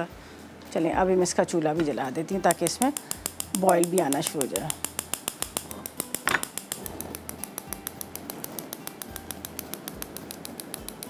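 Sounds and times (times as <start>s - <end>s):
gas hob igniter clicking: 1.8s - 11.0s.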